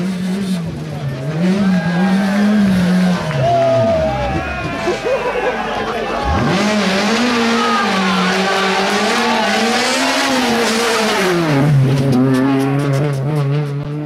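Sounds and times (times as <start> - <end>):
car engine at high revs passing: 0.0 - 3.4, 6.0 - 14.0.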